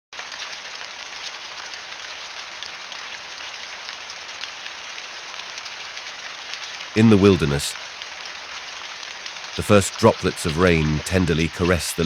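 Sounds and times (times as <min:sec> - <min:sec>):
rain patter: 0:00.2 - 0:12.0.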